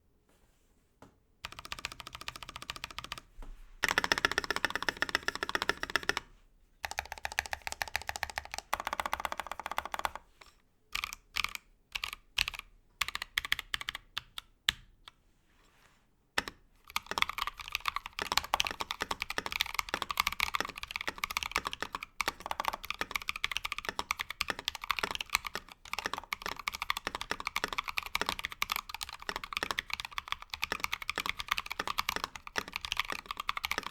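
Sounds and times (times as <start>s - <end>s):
mechanical keyboard typing: 1.4s - 10.3s, 10.9s - 14.8s, 16.4s - 33.9s.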